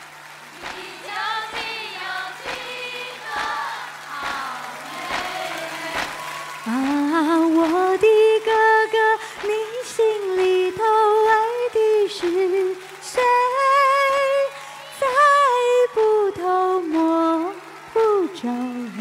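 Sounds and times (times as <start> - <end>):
woman singing into microphone: 0.6 - 19.0.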